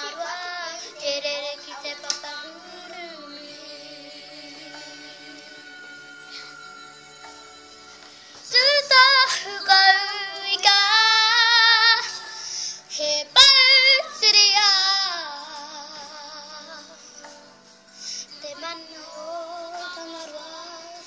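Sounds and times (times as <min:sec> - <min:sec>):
girl singing unaccompanied: 0:00.0 - 0:05.7, 0:08.4 - 0:17.6, 0:18.2 - 0:21.0.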